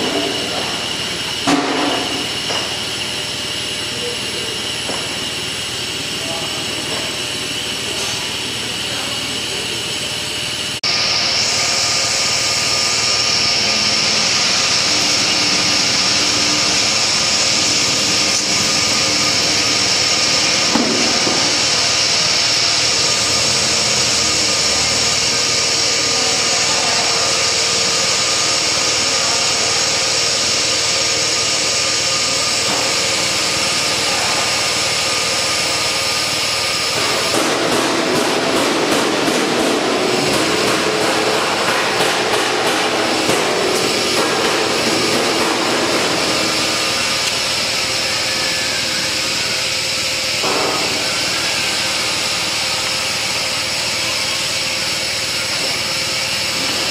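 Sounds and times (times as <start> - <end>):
machine whirring and hissing: 0.0 - 56.9.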